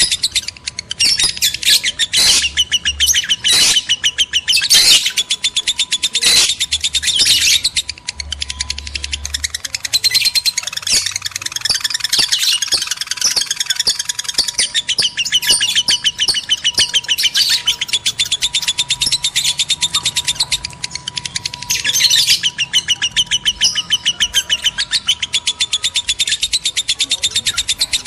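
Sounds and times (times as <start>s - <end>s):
lovebirds chattering: 0.0s - 28.0s.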